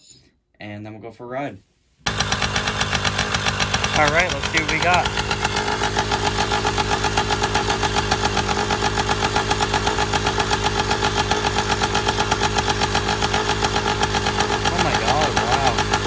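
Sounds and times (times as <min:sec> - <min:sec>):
two-stroke engine idling: 0:02.1 - 0:16.0.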